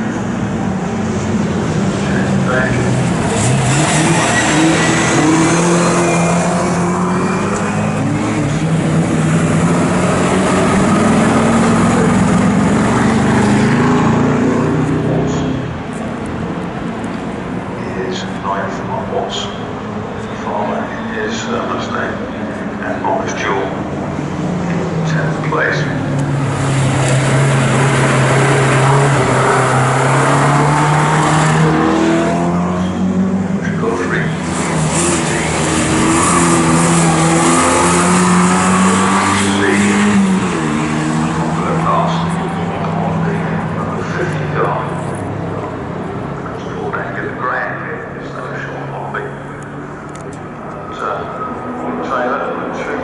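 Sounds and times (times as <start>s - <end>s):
racing car engines revving: 0.0s - 53.0s.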